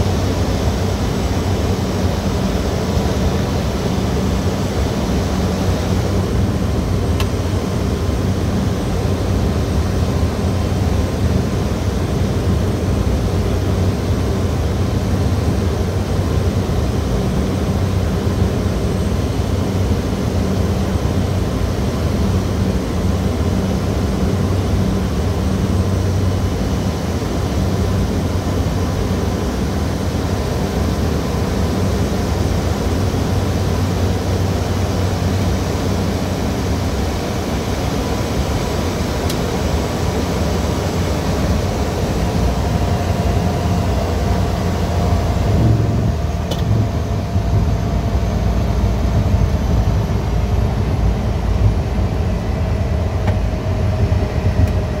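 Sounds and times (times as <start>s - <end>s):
turboprop engine drone: 0.0s - 55.0s.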